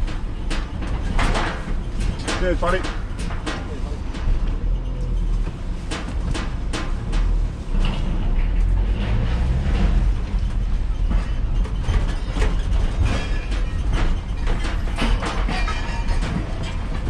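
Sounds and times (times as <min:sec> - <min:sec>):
heavy vehicle engine rumbling: 0:00.0 - 0:17.0
metallic clanks and knocks: 0:00.0 - 0:17.0.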